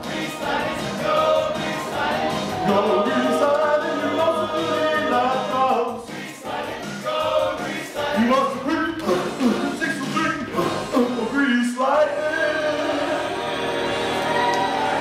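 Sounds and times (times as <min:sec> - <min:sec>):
group singing rock and roll: 0:00.0 - 0:14.7.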